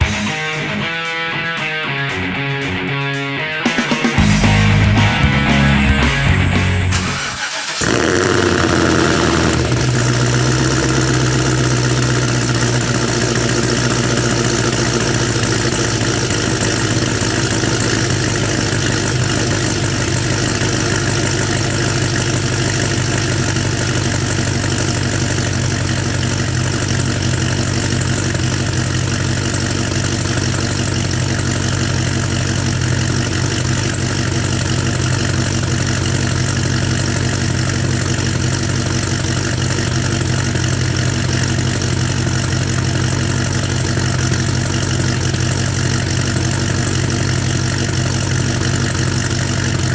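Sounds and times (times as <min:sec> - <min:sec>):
car engine idling with choppy lope: 0:00.0 - 0:00.4, 0:04.2 - 0:49.9.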